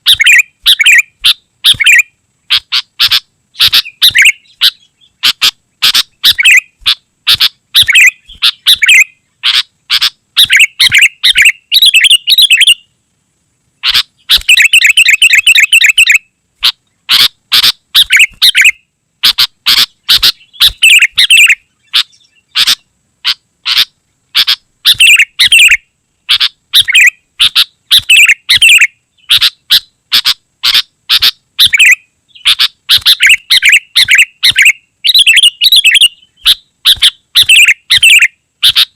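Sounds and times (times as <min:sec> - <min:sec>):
bulbul singing: 0:00.0 - 0:13.0, 0:13.8 - 0:38.9.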